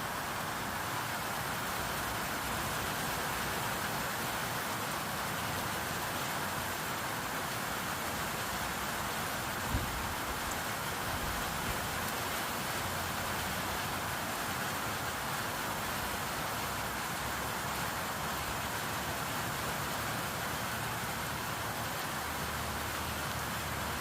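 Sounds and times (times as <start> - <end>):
rain pattering on surfaces: 0.0 - 24.0.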